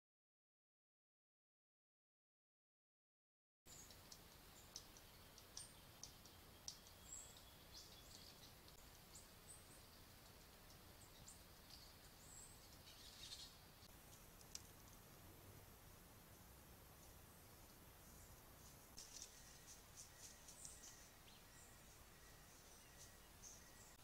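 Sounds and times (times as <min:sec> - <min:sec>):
steady low hiss: 0:03.7 - 0:24.0.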